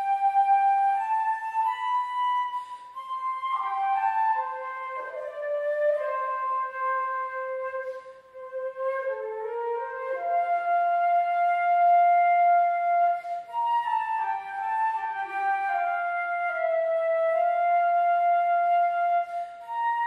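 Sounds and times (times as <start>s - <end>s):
flute playing slow melody: 0.0s - 20.0s
soft lower accompaniment: 0.0s - 20.0s.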